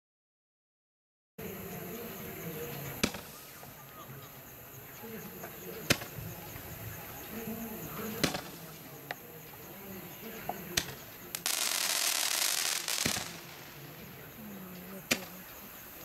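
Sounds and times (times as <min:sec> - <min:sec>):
crackling firework stars: 0:02.2 - 0:16.0
roman candle shots: 0:02.4 - 0:16.0.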